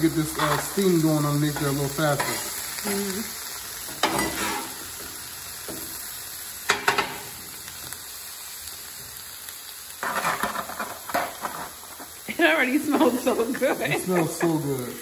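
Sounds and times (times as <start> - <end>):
food sizzling on griddle: 0.0 - 15.0.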